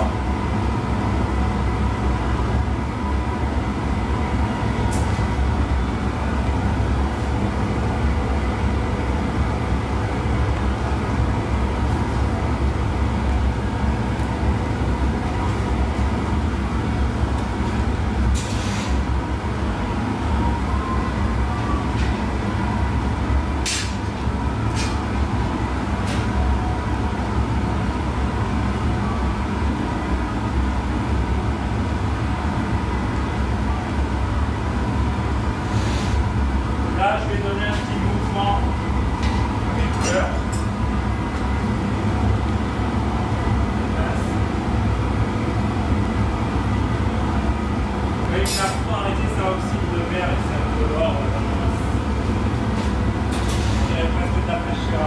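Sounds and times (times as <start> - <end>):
furnace burner roaring: 0.0 - 55.0.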